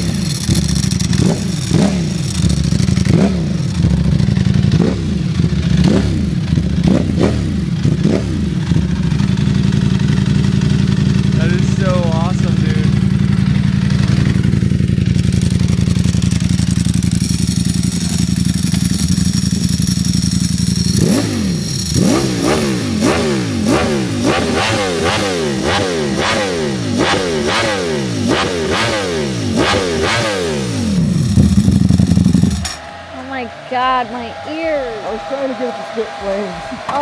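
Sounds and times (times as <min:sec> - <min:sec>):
motorcycle engine revving: 0:00.0 - 0:36.2.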